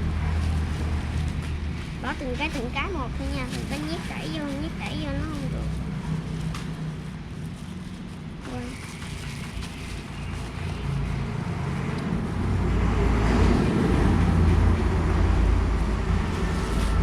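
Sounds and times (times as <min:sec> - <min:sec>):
low rough rumbling: 0:00.0 - 0:17.0.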